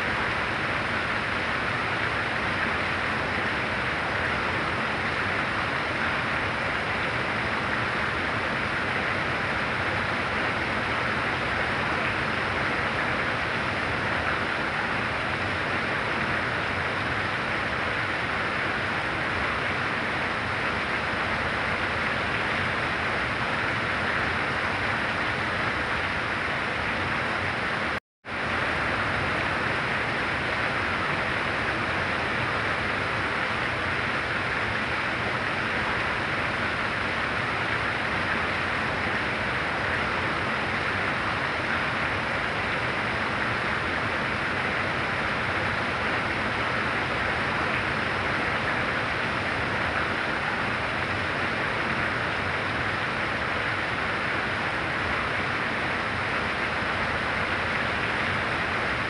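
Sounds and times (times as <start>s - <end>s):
very heavy rain: 0.0s - 59.0s.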